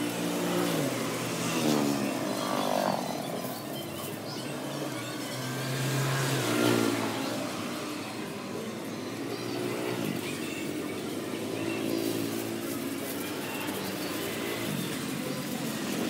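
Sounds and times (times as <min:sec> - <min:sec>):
passing motorbikes and cars: 0:00.0 - 0:16.0.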